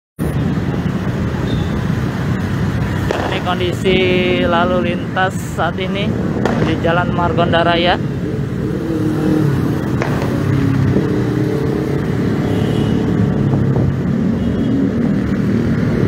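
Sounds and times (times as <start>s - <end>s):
cars passing: 0.2s - 16.0s
motorcycles passing: 0.2s - 16.0s.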